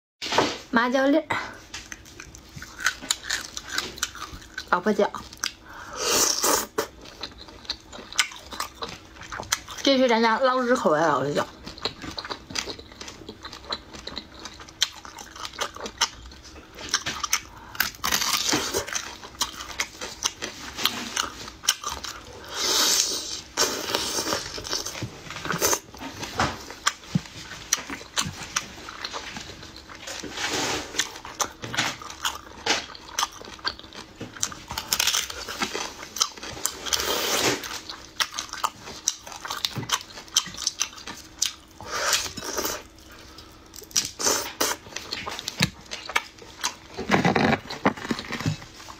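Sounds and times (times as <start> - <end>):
chewing: 1.6 - 10.0, 11.3 - 48.9.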